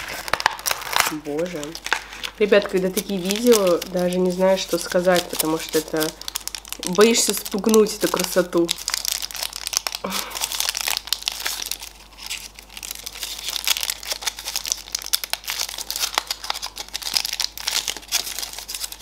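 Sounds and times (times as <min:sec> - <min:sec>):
foil wrapper crinkling and tearing: 0:00.0 - 0:19.0.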